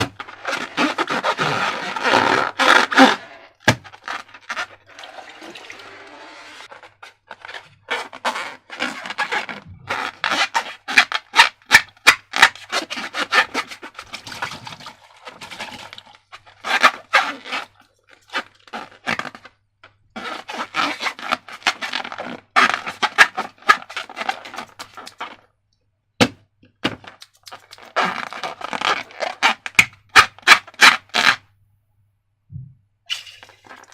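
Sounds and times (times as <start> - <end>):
rubbing of balloons: 0.0 - 19.5, 20.2 - 25.4, 27.0 - 31.4.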